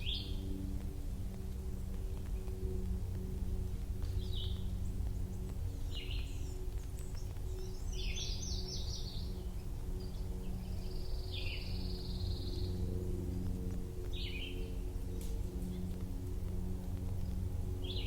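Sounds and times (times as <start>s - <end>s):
low background rumble: 0.0s - 18.0s
songbirds calling and trilling: 0.0s - 18.0s.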